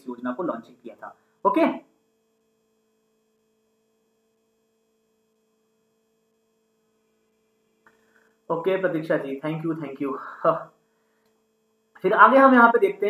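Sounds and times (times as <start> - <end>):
faint steady low hum: 0.0 - 13.0.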